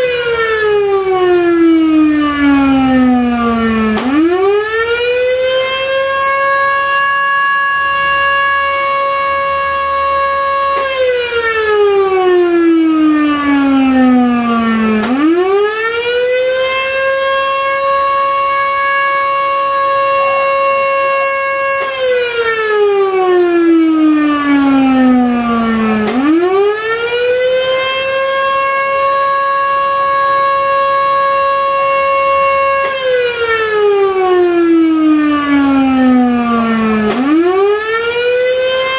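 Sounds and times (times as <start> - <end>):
alarm siren winding up and down: 0.0 - 38.9.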